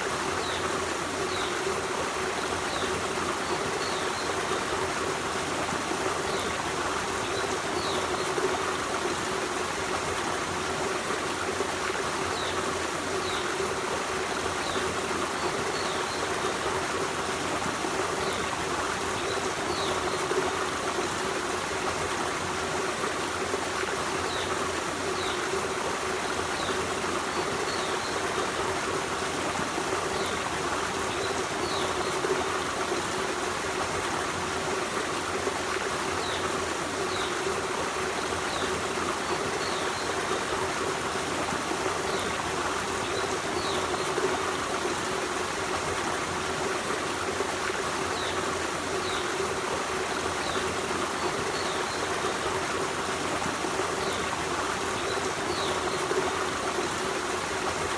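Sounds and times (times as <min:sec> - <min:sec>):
stream rushing and babbling: 0:00.0 - 0:57.9.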